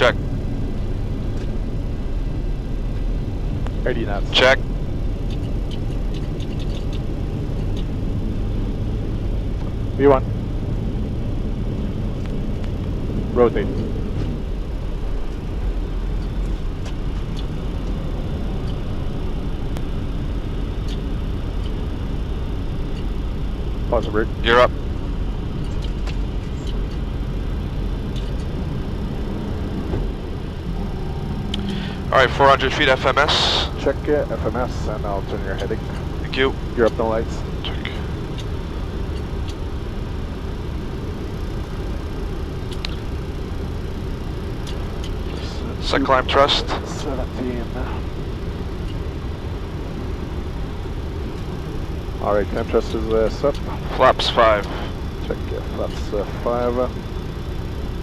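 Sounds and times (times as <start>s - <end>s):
jet engines and airflow rumble: 0.0s - 58.0s.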